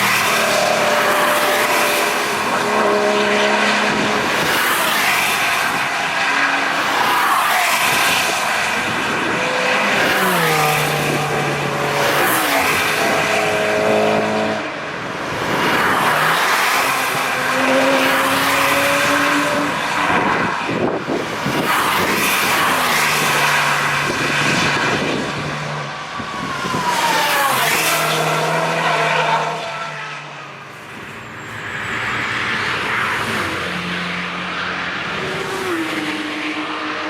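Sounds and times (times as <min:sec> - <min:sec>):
cars passing at speed: 0:00.0 - 0:37.0.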